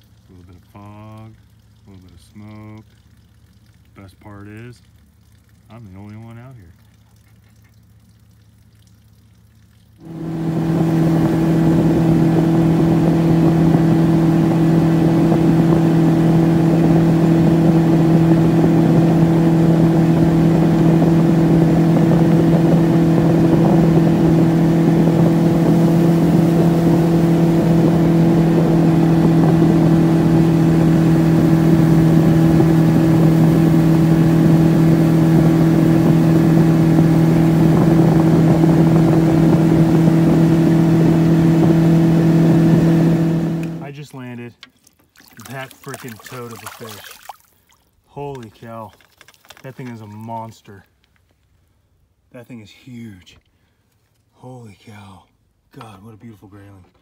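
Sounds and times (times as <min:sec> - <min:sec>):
outboard motor humming: 0:00.0 - 0:50.5.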